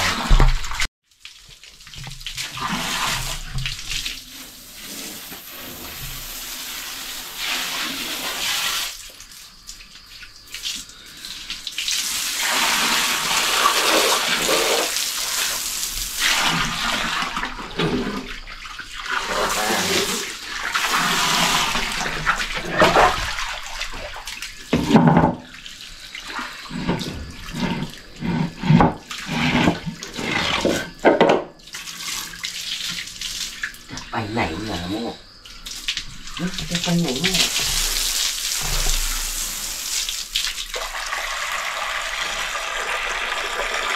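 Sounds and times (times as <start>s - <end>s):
hose water splashing on concrete: 0.0s - 43.9s.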